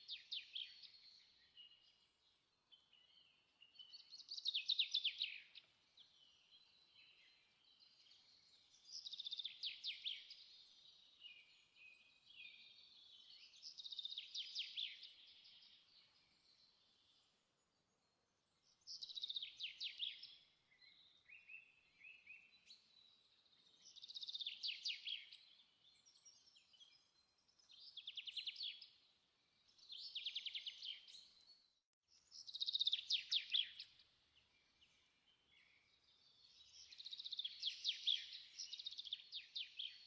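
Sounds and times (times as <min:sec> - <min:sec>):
bird singing trilled phrases: 0:00.0 - 0:40.0.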